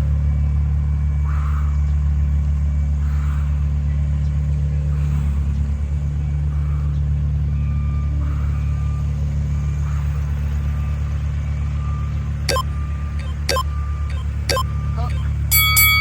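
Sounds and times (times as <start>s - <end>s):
low engine-like rumble: 0.0s - 16.0s.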